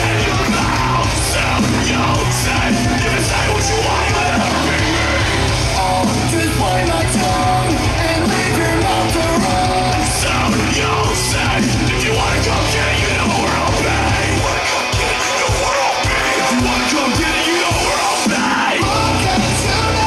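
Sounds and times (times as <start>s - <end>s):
hard rock music with vocals: 0.0s - 20.0s.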